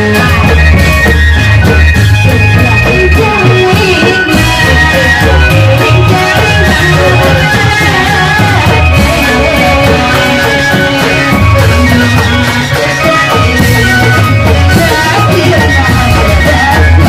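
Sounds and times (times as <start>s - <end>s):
loud live music with pulsing beat: 0.0s - 17.0s.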